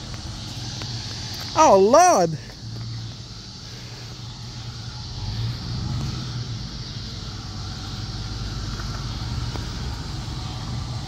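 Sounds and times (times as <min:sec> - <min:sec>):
pickup engine running: 0:00.0 - 0:11.0
steady hiss: 0:00.0 - 0:11.0.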